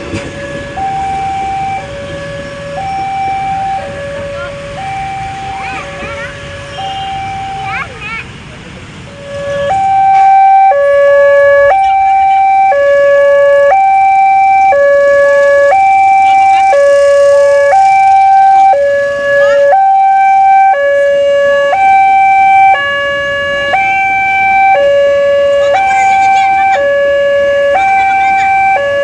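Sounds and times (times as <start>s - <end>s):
two-tone hi-lo siren horn: 0.0s - 7.8s, 9.1s - 29.0s.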